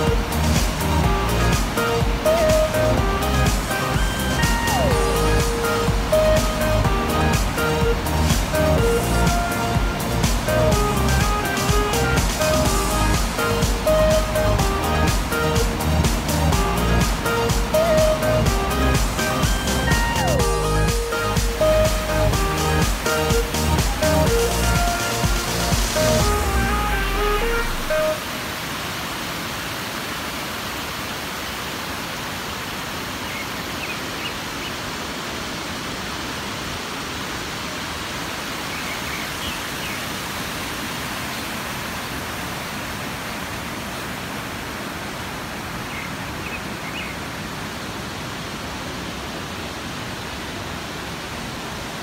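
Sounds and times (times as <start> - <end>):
water rushing over dam spillway: 0.0 - 52.0.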